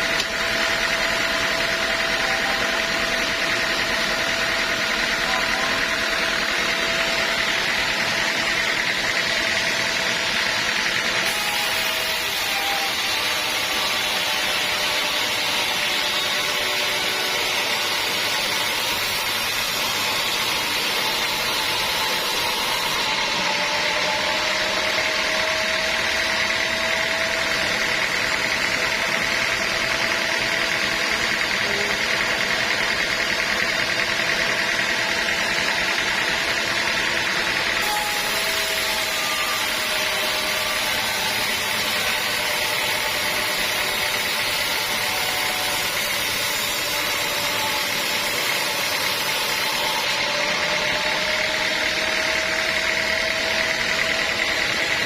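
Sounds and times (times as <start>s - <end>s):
sawmill saw cutting logs: 0.0s - 55.0s.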